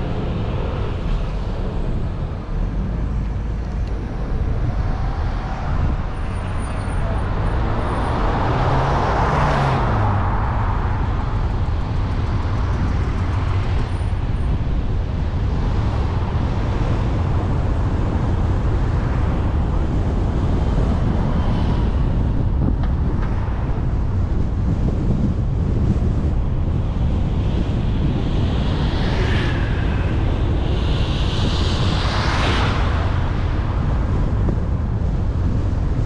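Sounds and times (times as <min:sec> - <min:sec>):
car engine hum: 0:00.0 - 0:36.0
tyre and road noise: 0:00.0 - 0:36.0.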